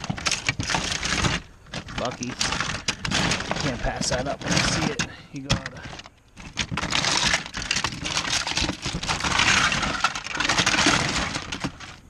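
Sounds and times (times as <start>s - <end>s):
plastic toys clattering: 0.0s - 12.0s.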